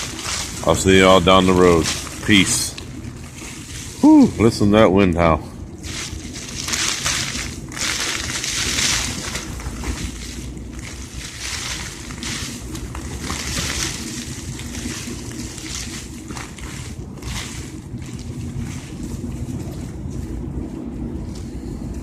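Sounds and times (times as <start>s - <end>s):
wind howling around a tent: 0.0s - 22.0s
wind rumble on microphone: 0.0s - 22.0s.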